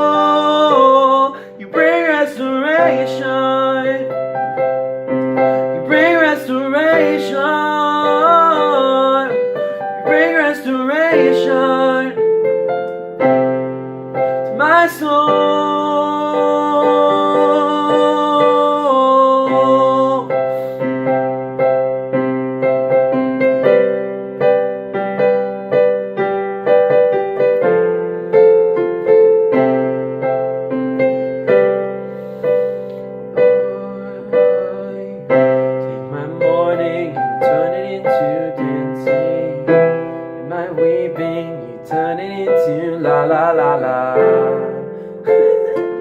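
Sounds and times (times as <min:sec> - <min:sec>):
slow piano chords: 0:00.0 - 0:46.0.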